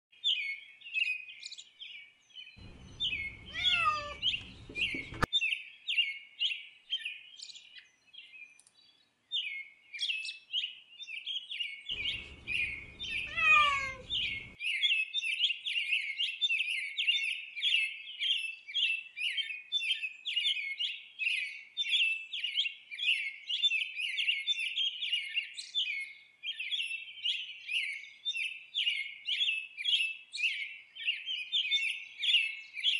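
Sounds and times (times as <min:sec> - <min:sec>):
small birds chirping: 0:00.2 - 0:32.9.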